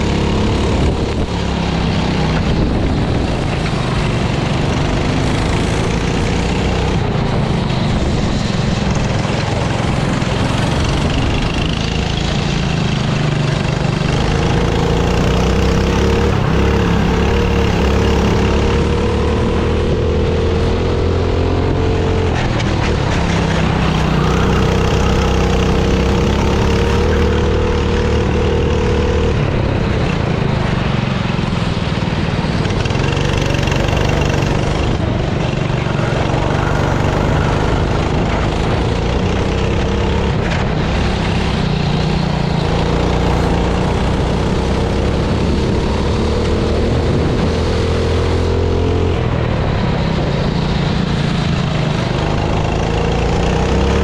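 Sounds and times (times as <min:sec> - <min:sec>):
kart engine running at speed: 0:00.0 - 0:54.0.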